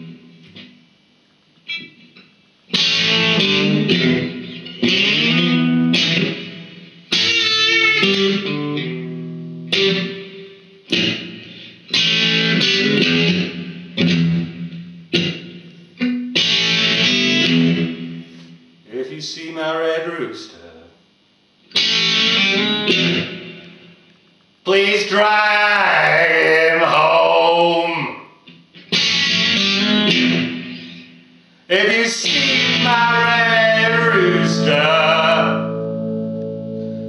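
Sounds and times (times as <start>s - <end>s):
electric guitar blues playing: 0.0s - 0.8s, 1.6s - 18.6s, 21.7s - 24.1s, 24.9s - 37.0s.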